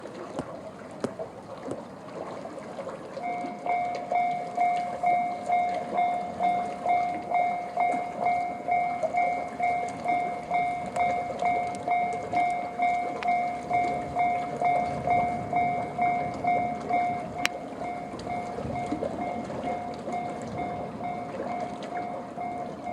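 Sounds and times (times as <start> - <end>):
level crossing warning bell: 3.2 - 22.9.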